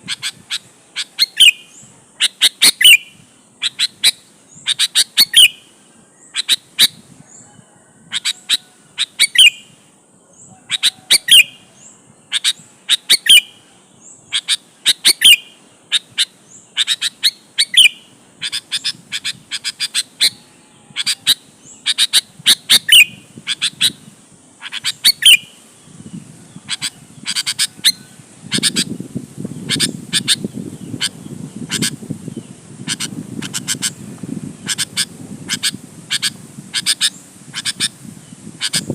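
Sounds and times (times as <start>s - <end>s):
bird whistling song: 0.0s - 7.5s, 8.1s - 9.8s, 10.4s - 11.6s, 12.3s - 24.0s, 24.6s - 34.0s, 34.6s - 38.9s.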